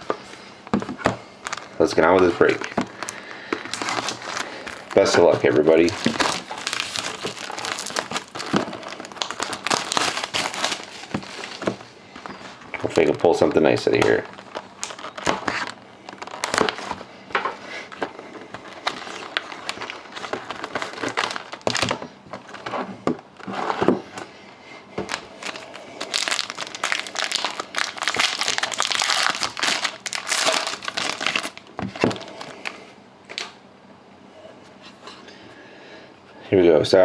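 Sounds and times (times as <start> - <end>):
plastic wrapping crinkling and tearing: 1.4 - 23.9, 25.0 - 33.6.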